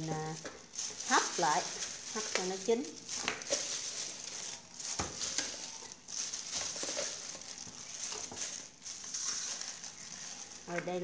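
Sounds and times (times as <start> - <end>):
plastic glove crinkling: 0.0 - 11.0.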